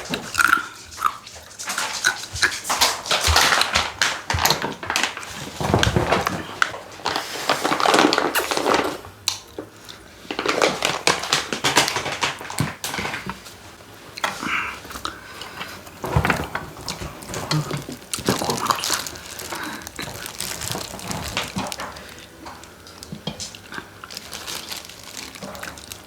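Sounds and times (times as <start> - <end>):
crunching and chewing food: 0.0 - 26.0.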